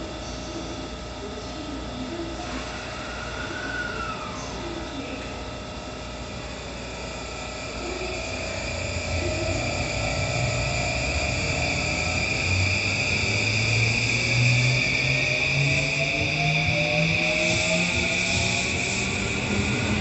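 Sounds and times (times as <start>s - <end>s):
electric train motor whine: 2.4s - 20.0s.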